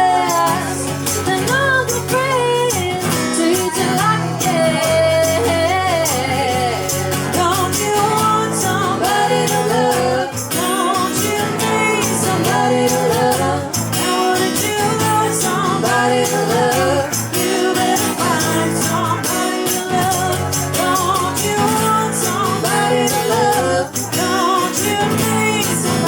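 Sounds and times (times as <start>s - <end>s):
band playing song with vocals: 0.0s - 26.0s.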